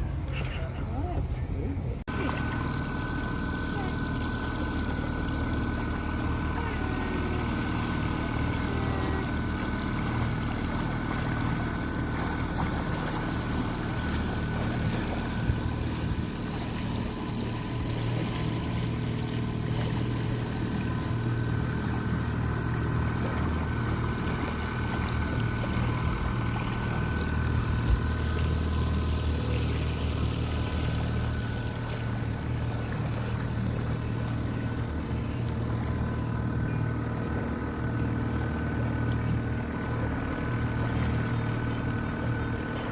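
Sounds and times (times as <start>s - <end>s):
motor boat engine running: 0.0s - 42.9s.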